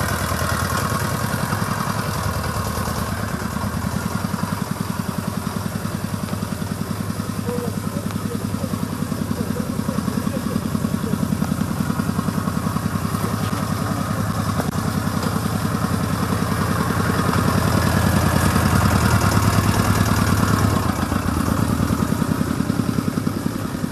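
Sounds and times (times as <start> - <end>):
quad engine running: 0.0 - 23.9.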